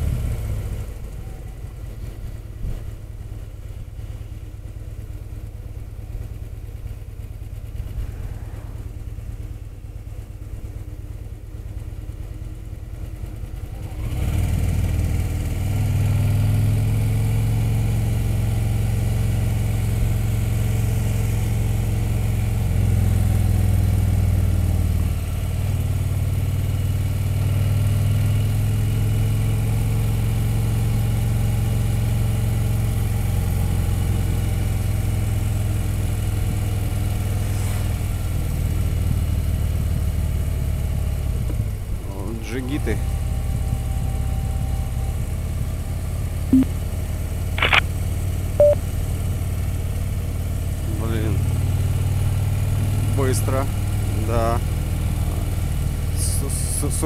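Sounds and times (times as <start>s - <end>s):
motorcycle engine: 0.0s - 42.0s, 43.0s - 57.0s.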